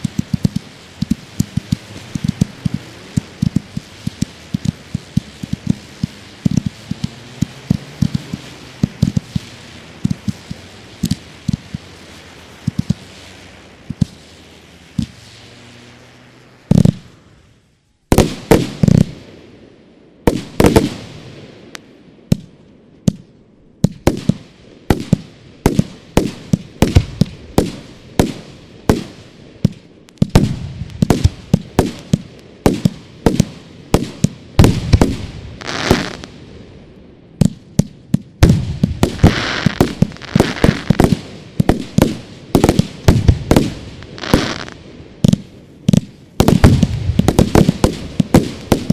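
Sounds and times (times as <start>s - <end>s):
fireworks bangs echoing: 0.0s - 48.9s
fireworks crackling and hissing: 0.0s - 48.9s.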